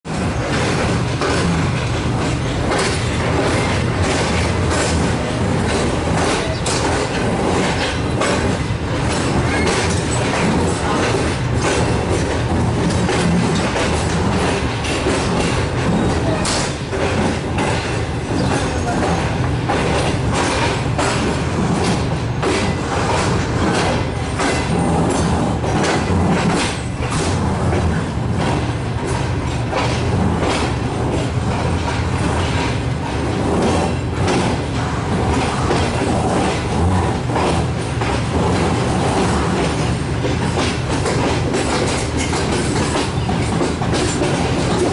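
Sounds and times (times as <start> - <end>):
train running gear rumble: 0.0 - 44.9
wheels clacking over rail joints: 0.1 - 44.9.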